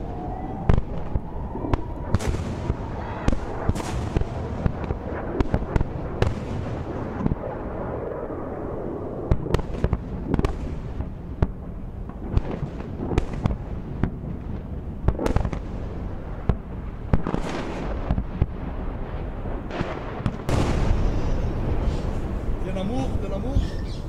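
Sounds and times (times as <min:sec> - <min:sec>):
low rumble: 0:00.0 - 0:15.0, 0:17.7 - 0:23.5
explosions bangs and booms: 0:00.0 - 0:23.5.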